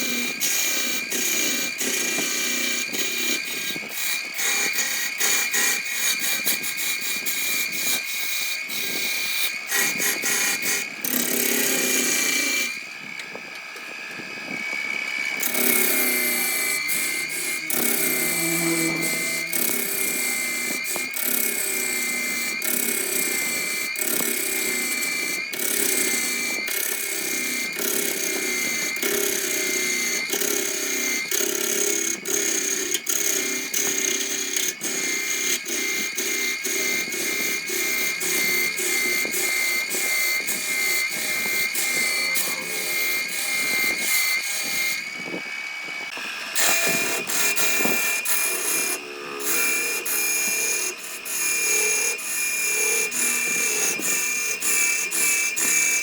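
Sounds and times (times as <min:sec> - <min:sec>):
turning tool scraping wood: 0:00.0 - 0:13.2, 0:13.9 - 0:56.0
wood lathe whine: 0:00.0 - 0:56.0.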